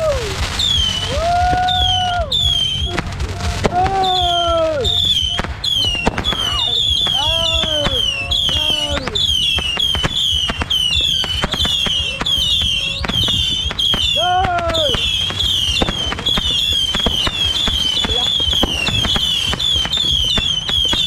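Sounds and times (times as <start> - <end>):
fireworks and firecrackers banging: 0.0 - 21.0
high chirp: 0.4 - 21.0.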